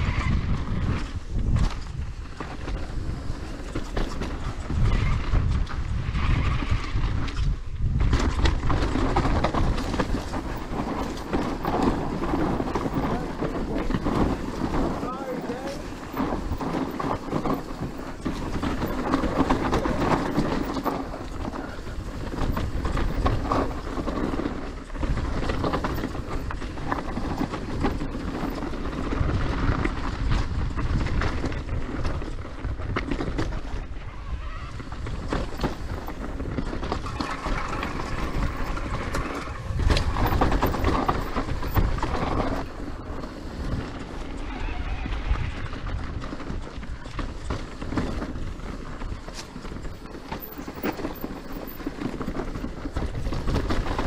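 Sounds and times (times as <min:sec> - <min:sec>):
bike knocking and rattling: 0:00.0 - 0:54.0
tyres rolling over dirt: 0:00.0 - 0:54.0.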